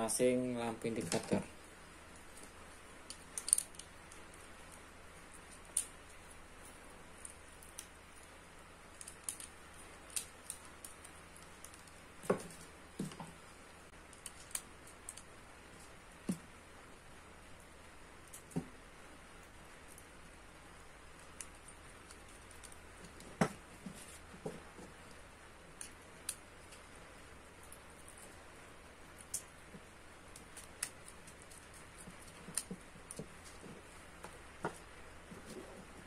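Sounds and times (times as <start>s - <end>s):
light clicks and taps of wiring work: 2.1s - 16.5s, 20.9s - 28.4s, 29.0s - 36.0s.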